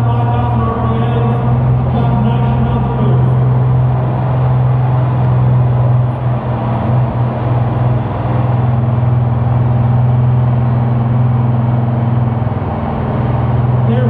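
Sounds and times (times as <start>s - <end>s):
vehicle engine running loud: 0.0s - 14.0s.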